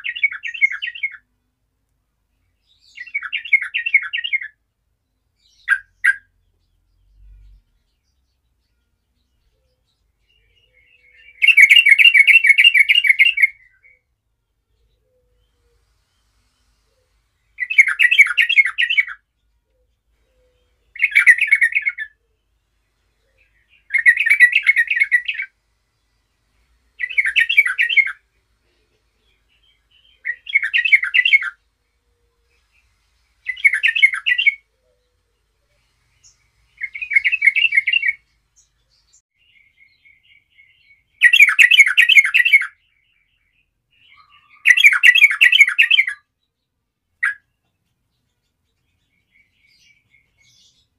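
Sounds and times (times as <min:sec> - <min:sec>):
bulbul singing: 0:05.4 - 0:46.3.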